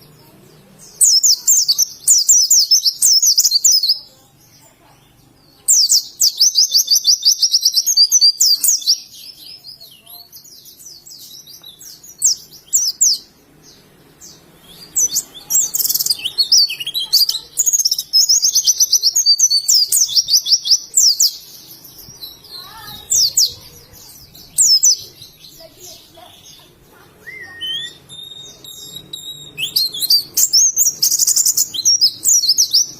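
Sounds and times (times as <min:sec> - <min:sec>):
bird singing high trills: 0:05.1 - 0:32.9.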